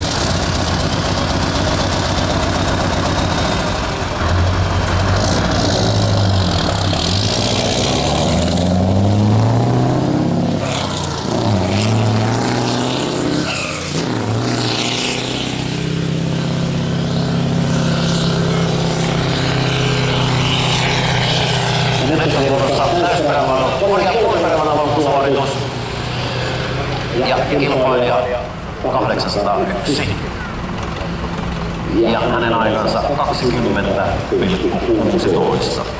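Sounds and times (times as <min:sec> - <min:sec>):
truck diesel engine pulling hard: 0:00.0 - 0:35.9.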